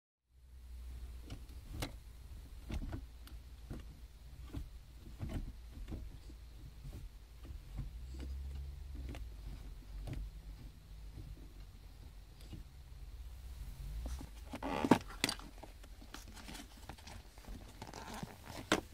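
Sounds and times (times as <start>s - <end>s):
low steady hum: 0.3s - 18.9s.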